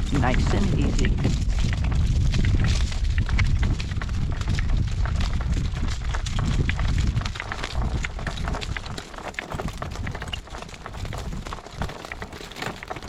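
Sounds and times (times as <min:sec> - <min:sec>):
wind on microphone: 0:00.0 - 0:12.0
horse hoofbeats trotting: 0:00.0 - 0:13.0.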